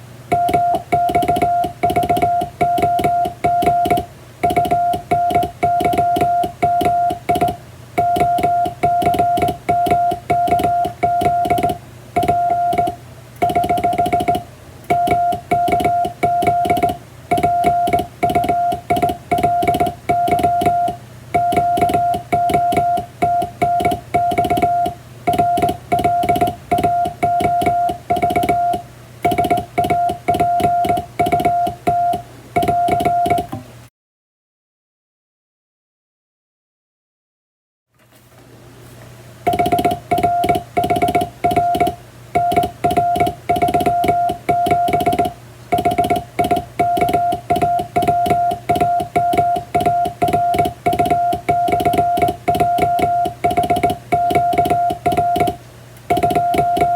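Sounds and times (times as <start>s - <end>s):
morse code tone: 0.3s - 33.6s, 39.5s - 56.9s
telegraph key clicks: 0.3s - 33.6s, 39.5s - 56.9s.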